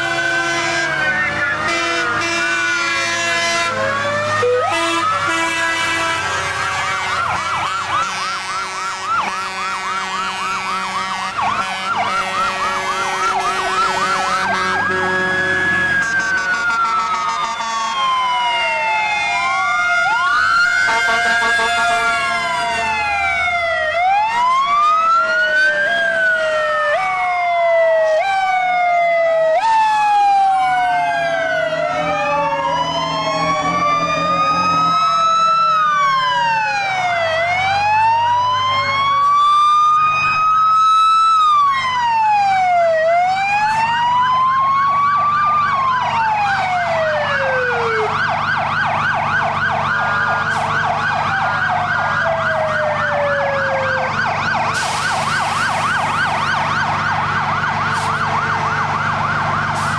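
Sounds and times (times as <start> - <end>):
fire truck sirens: 0.0 - 59.9.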